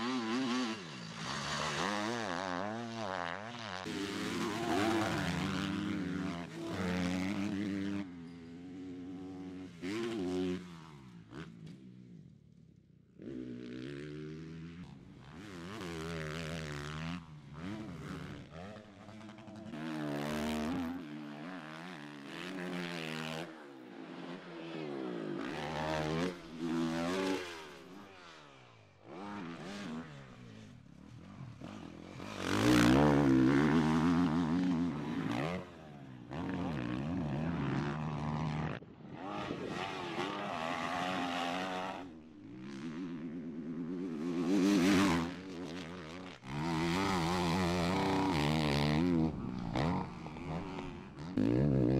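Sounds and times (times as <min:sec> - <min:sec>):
motocross bike engines revving: 0:00.0 - 0:12.2, 0:13.2 - 0:51.9.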